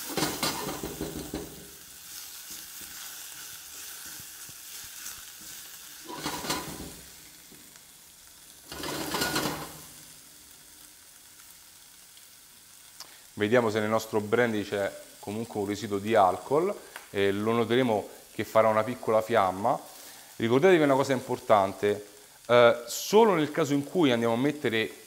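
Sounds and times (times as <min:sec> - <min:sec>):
prawns sizzling in oil: 0:00.0 - 0:25.0.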